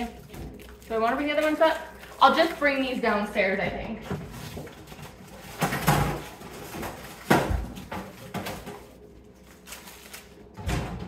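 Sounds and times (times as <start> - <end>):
plastic bags rustling and knocking: 0.0 - 11.0.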